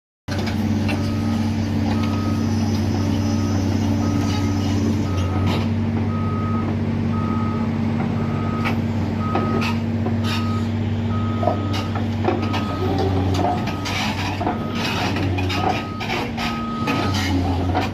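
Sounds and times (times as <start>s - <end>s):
heavy diesel machinery running: 0.3s - 17.9s
reversing alarm beeping: 0.9s - 17.8s.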